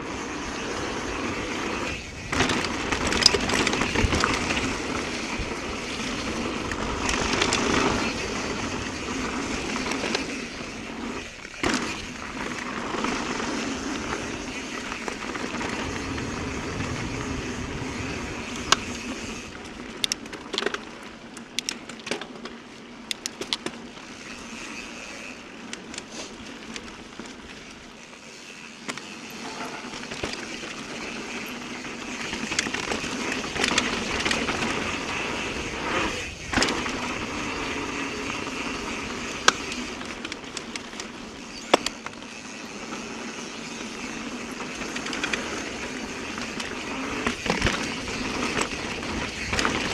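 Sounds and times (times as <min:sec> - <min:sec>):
bike rattling over bumps: 0:00.0 - 0:49.9
bike tyres crunching on dirt: 0:00.0 - 0:49.9.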